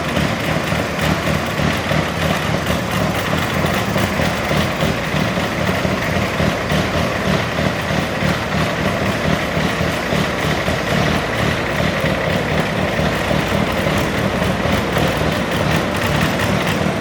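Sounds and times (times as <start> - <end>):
garden tractor engine running: 0.0 - 17.0.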